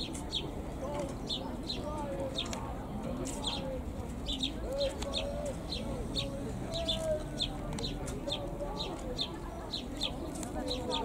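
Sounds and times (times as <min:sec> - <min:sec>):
birds high chirps: 0:00.0 - 0:11.0.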